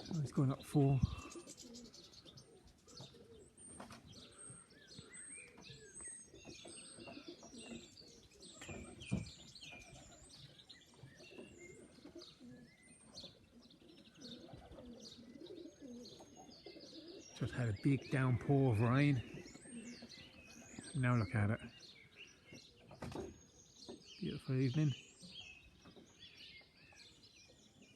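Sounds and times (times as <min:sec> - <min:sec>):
birds chirping: 0:00.0 - 0:27.9
pigeons cooing: 0:00.0 - 0:27.9.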